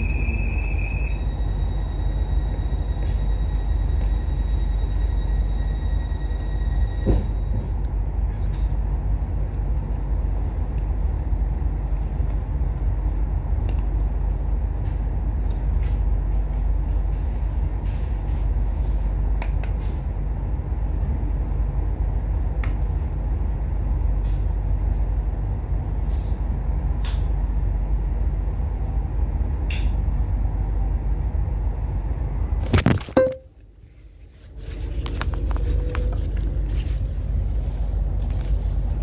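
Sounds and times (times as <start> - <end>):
train carriage rumble: 0.0 - 39.0.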